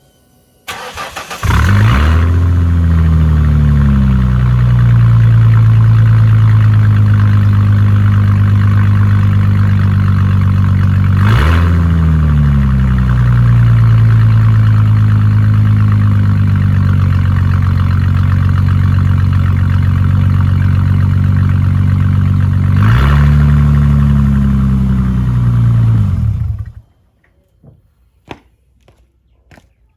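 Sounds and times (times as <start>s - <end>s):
engine revving: 0.7s - 26.8s
car engine starting and idling: 0.7s - 26.9s.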